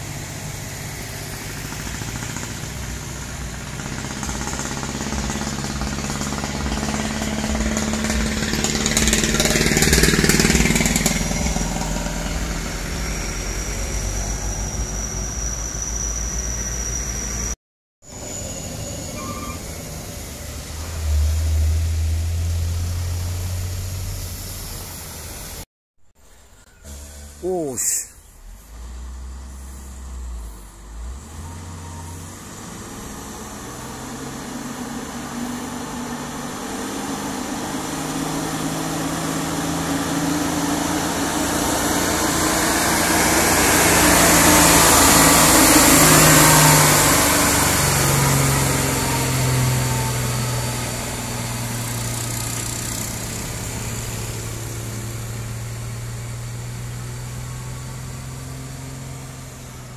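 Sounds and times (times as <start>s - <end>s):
truck diesel engine labouring uphill: 0.0s - 25.6s, 26.2s - 59.9s.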